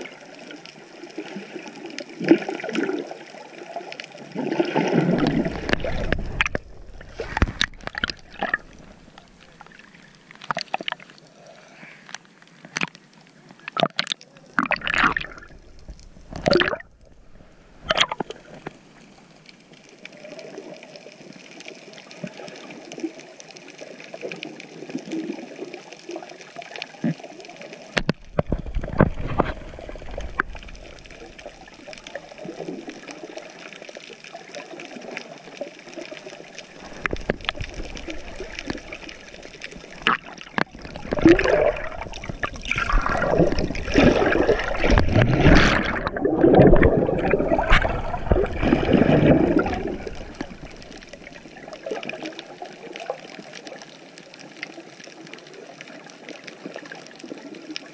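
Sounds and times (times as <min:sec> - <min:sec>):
bubbles rushing and splashing: 0:00.0 - 0:11.2, 0:13.7 - 0:19.0, 0:20.4 - 0:53.9
underwater water gurgling: 0:00.0 - 0:57.9.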